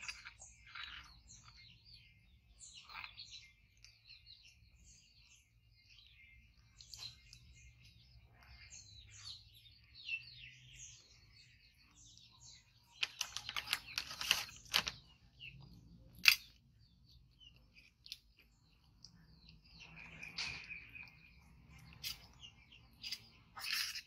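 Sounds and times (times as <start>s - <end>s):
high chirping calls: 0.0s - 24.0s.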